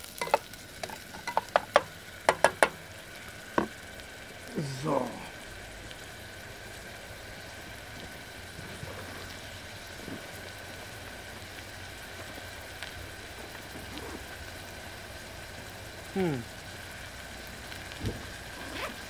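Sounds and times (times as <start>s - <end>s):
onions sizzling in a pot: 0.0s - 19.0s.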